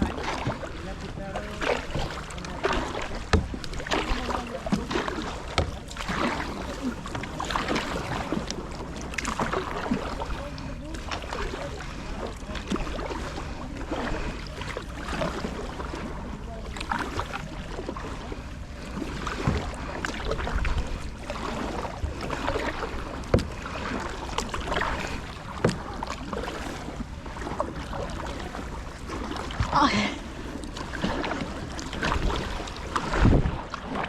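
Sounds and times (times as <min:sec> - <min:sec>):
paddle splashing and dripping: 0:00.0 - 0:34.0.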